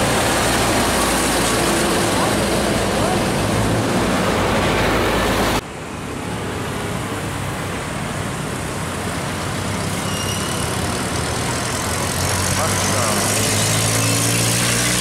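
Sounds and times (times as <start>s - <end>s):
small truck engines running: 0.0s - 5.6s, 8.3s - 15.0s
street traffic: 0.0s - 15.0s
truck passing close: 0.0s - 15.0s.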